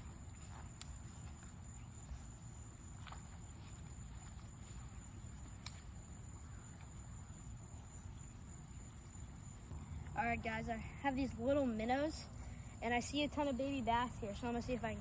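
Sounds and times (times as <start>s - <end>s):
steady high-pitched whine: 0.0s - 15.0s.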